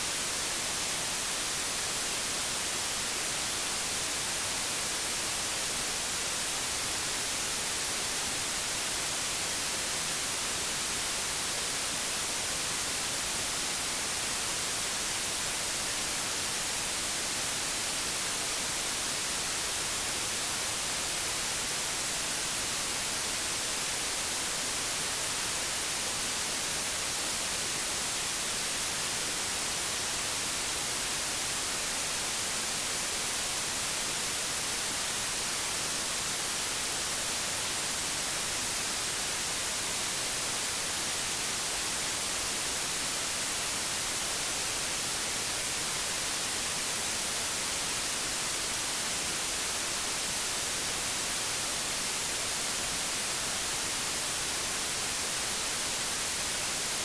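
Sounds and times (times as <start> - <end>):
television static hiss: 0.0 - 57.0.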